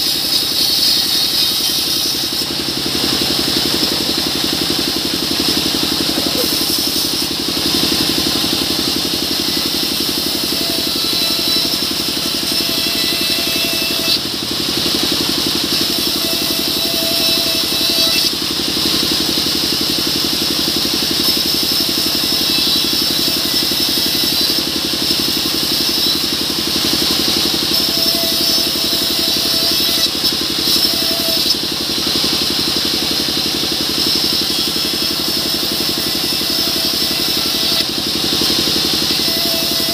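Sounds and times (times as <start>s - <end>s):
saw blade hissing through wood: 0.0s - 39.9s
saw drive droning: 0.0s - 39.9s
short saw whine: 0.0s - 39.9s.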